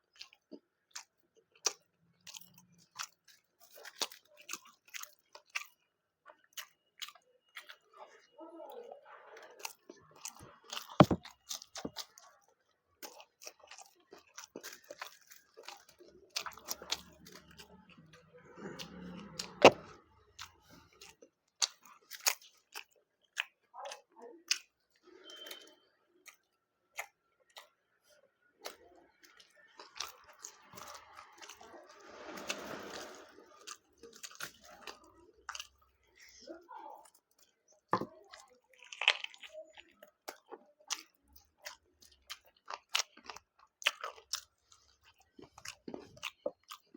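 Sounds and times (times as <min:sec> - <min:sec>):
person chewing food: 0:00.0 - 0:08.3, 0:09.4 - 0:46.9.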